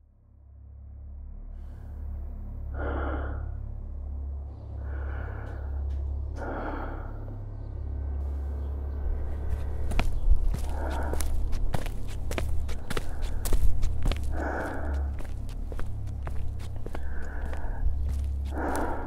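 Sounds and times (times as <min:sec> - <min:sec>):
low steady drone: 0:00.0 - 0:19.0
heavy breaths: 0:02.7 - 0:03.6, 0:04.6 - 0:19.0.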